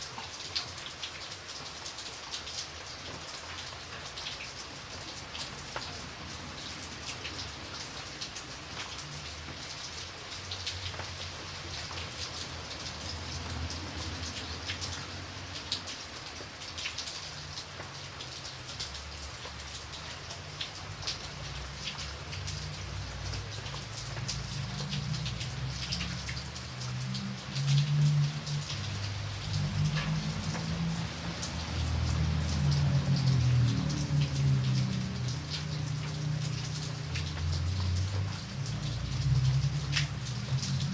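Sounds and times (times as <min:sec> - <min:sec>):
light rain falling: 0:00.0 - 0:40.9.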